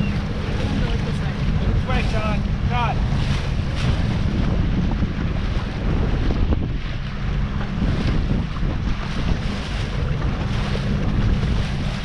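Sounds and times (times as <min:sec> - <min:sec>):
boat engine drone: 0:00.0 - 0:12.0
water rushing past hull: 0:00.0 - 0:12.0
wind buffeting microphone: 0:00.0 - 0:12.0.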